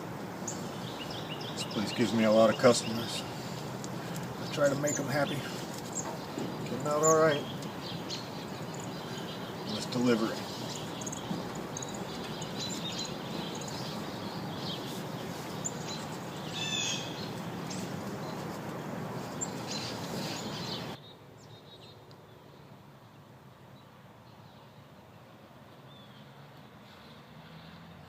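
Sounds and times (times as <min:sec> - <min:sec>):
birds chirping: 0:00.0 - 0:27.3.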